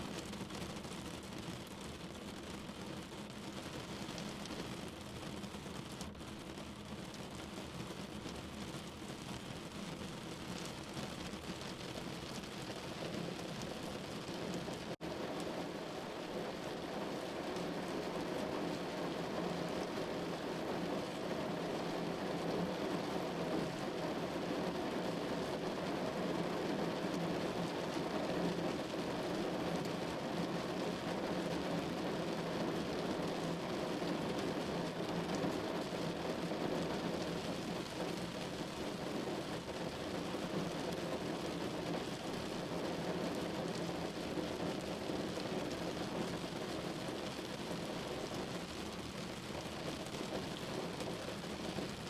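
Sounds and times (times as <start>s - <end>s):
rain on a window pane: 0.0s - 52.0s.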